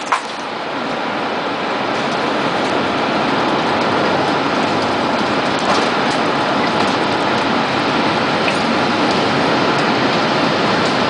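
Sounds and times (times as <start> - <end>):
tornado roaring: 0.0 - 11.0.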